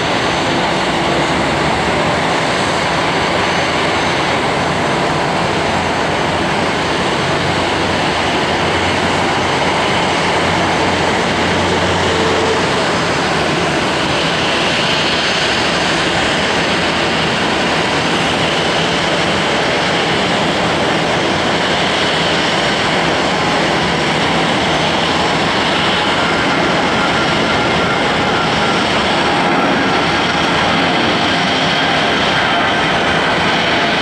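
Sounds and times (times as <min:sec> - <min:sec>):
jet engines running: 0:00.0 - 0:34.0.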